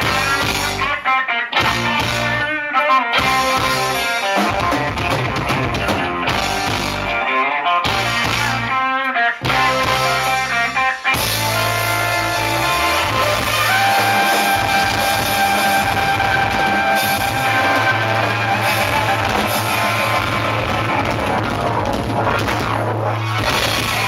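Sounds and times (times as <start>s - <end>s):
bass: 0.0s - 24.0s
drum kit: 0.0s - 24.0s
electric guitar melody: 0.0s - 24.0s.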